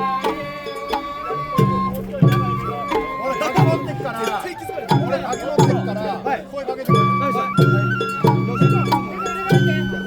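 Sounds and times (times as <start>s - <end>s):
bamboo flute long notes: 0.0s - 10.0s.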